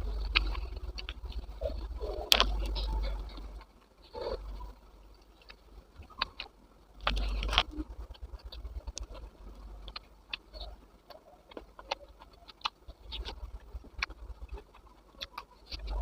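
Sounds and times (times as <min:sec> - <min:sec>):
close chewing sounds: 0:00.0 - 0:16.0.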